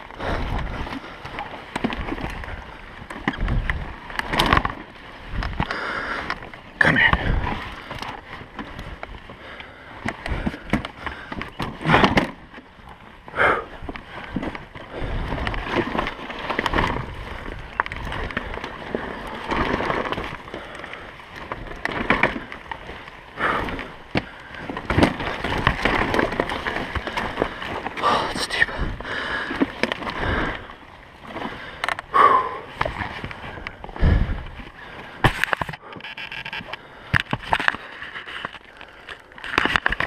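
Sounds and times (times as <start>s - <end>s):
dirt bike engine at low revs: 0.0s - 38.3s.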